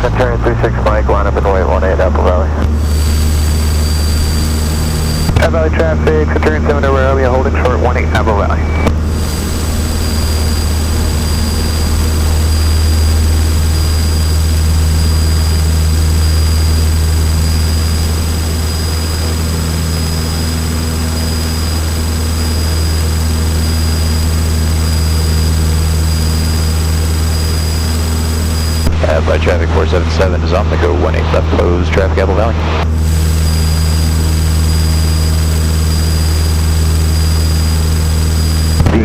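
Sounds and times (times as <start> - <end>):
airplane engine and propeller drone: 0.0 - 39.0.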